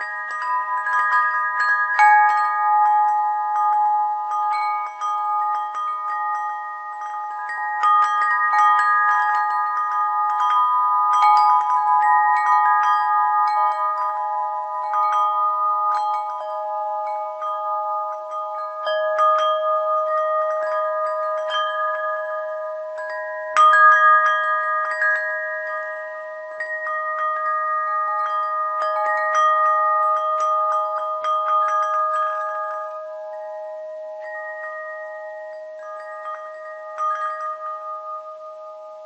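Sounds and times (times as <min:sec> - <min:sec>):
bells chiming: 0:00.0 - 0:39.0.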